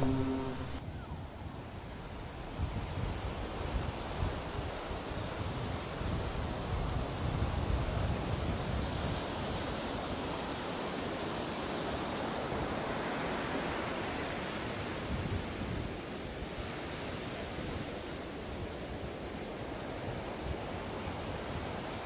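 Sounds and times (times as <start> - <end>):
sea: 0.0 - 22.0.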